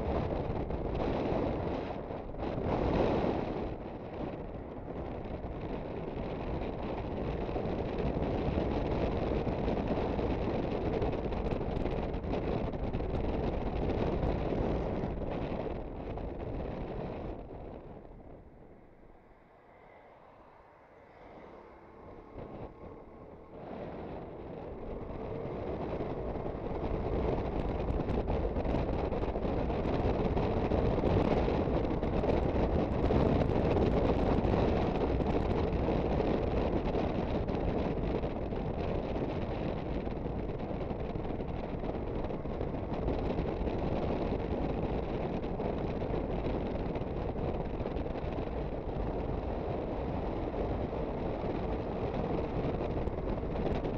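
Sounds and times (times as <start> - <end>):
road noise: 0.0 - 53.9
wind on microphone: 0.0 - 53.9.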